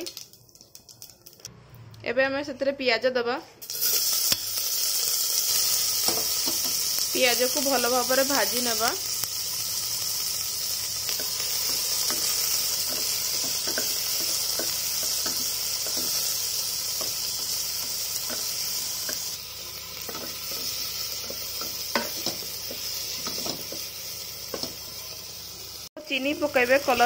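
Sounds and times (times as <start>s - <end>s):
onions sizzling in oil: 0.0s - 1.1s, 3.6s - 27.0s.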